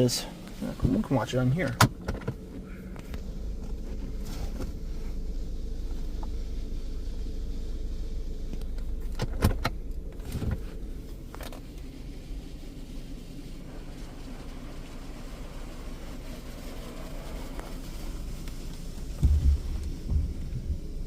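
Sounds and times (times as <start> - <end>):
car wash rumble: 0.0 - 21.0.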